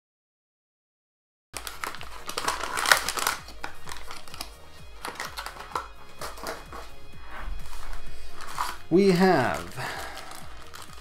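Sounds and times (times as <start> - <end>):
background music: 1.6 - 11.0
plastic packaging crinkling: 1.6 - 11.0.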